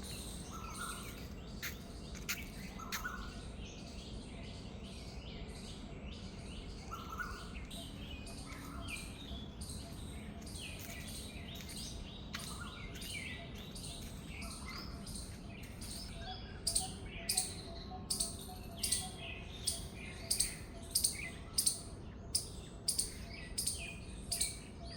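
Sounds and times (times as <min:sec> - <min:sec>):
birds chirping and twittering: 0:00.0 - 0:24.9.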